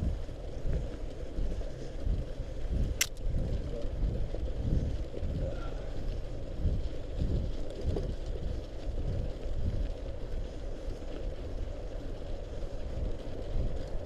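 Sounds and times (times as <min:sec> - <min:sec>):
bike tyres rolling through snow: 0:00.0 - 0:14.0
wind on microphone: 0:00.0 - 0:14.0.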